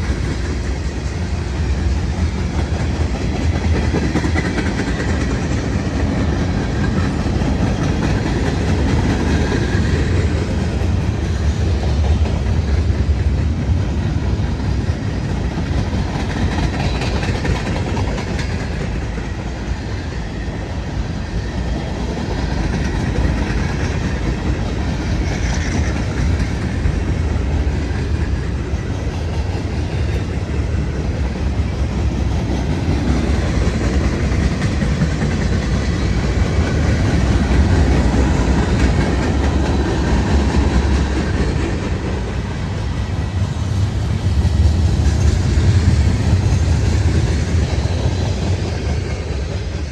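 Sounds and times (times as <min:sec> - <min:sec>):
train rumbling on rails: 0:00.0 - 0:49.9.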